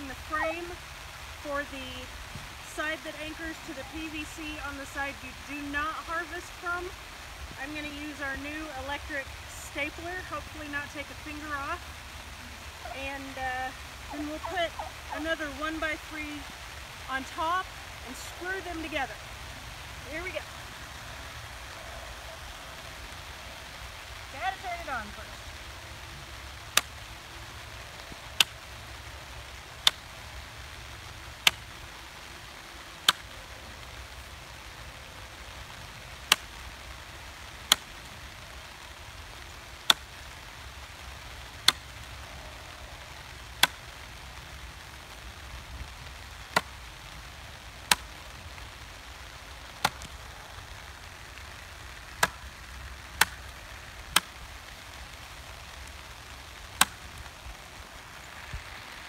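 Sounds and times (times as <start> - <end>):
steady low hiss: 0.0 - 59.0.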